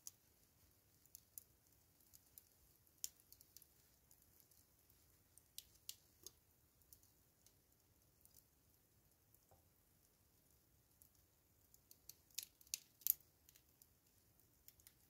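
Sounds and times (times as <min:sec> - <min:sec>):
charcoal fire crackling: 0:00.0 - 0:15.0.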